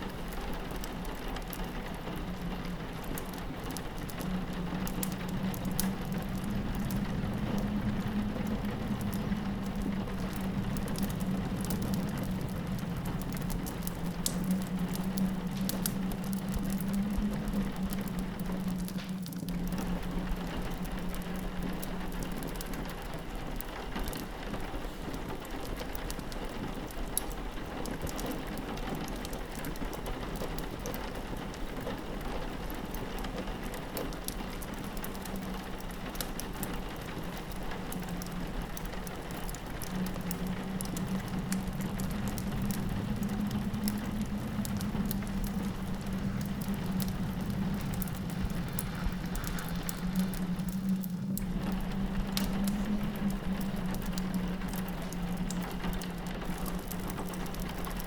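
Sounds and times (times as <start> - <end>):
rain pattering on a window: 0.0 - 58.0
wood fire crackling: 0.0 - 58.0
low steady drone: 0.1 - 24.2, 33.2 - 58.0.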